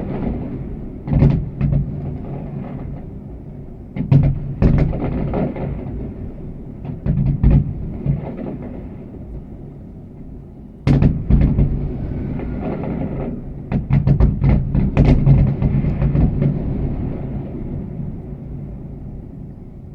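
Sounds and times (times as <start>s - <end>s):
firework bang: 0.0s - 9.3s, 10.9s - 19.3s
firework cracks: 0.0s - 9.4s, 10.9s - 18.6s.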